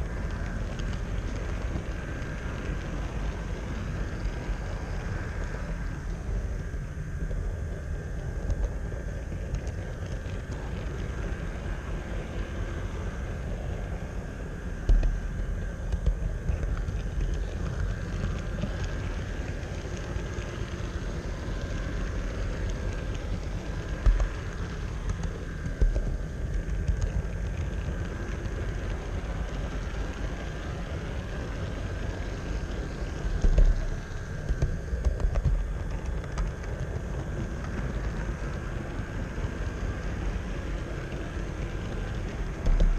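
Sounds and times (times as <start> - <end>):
faint high hum: 0.0 - 42.9.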